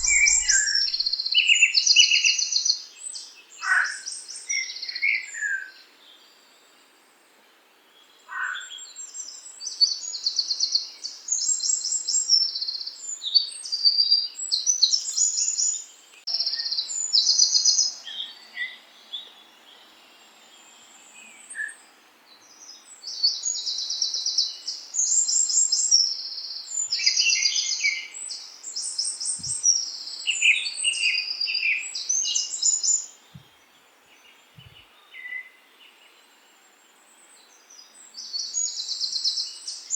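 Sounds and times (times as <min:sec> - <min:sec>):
faint steady background hiss: 0:00.0 - 0:39.9
songbirds singing: 0:00.0 - 0:39.9.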